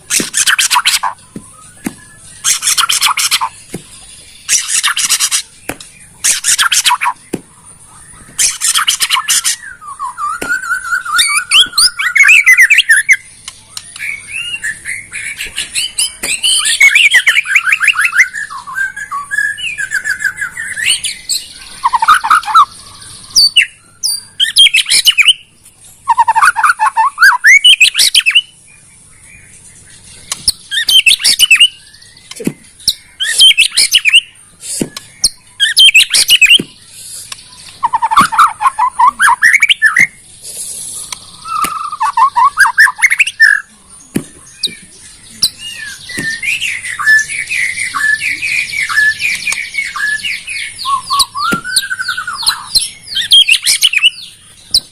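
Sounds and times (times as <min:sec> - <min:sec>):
bird singing whistled phrases: 0:00.0 - 0:28.6, 0:30.3 - 0:54.9.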